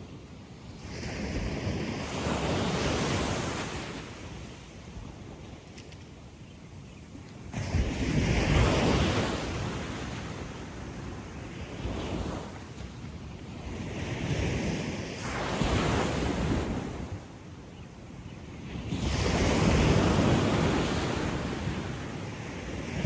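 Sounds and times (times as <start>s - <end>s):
waves breaking on sandy beach: 0.0s - 5.5s, 7.4s - 23.0s.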